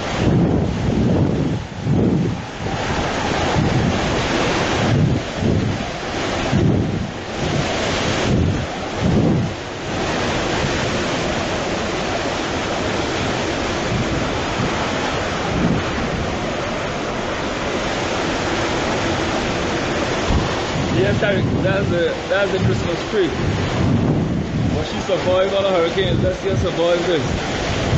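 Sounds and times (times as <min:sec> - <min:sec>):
strong wind on microphone: 0:00.0 - 0:27.9.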